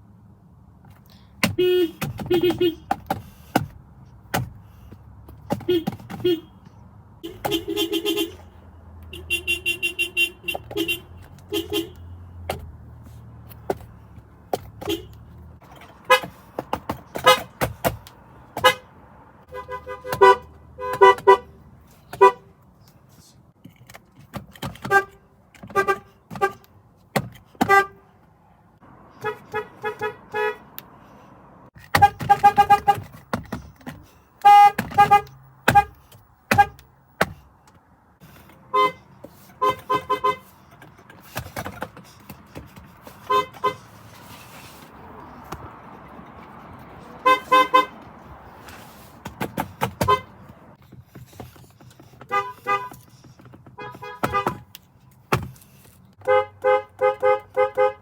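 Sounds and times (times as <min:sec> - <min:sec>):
car horns tooting: 0:01.4 - 0:03.7, 0:05.4 - 0:12.8, 0:14.5 - 0:22.6, 0:24.6 - 0:28.1, 0:29.1 - 0:30.8, 0:31.7 - 0:37.4, 0:38.2 - 0:50.8, 0:52.0 - 0:55.5, 0:56.2 - 0:58.0.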